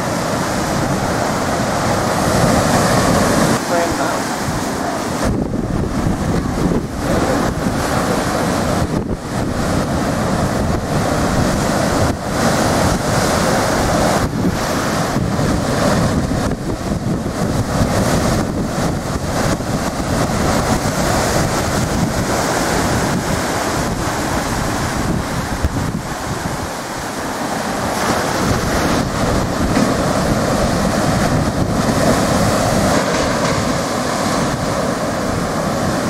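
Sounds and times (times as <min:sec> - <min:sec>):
surf and whitewater rushing: 0:00.0 - 0:36.0
wind buffeting microphone: 0:00.0 - 0:36.0.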